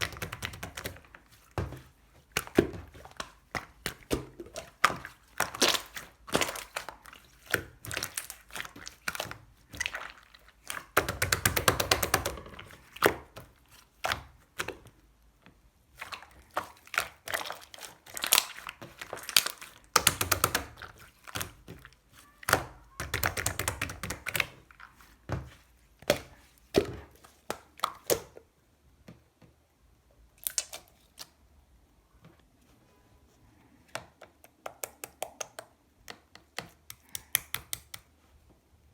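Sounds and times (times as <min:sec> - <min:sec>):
slime squishing by hand: 0:00.0 - 0:29.3, 0:30.3 - 0:32.5.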